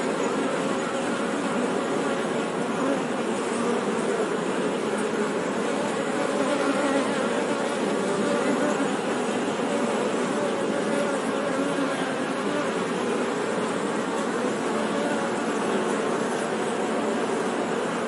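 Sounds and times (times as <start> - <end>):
honey bees buzzing: 0.1 - 18.0.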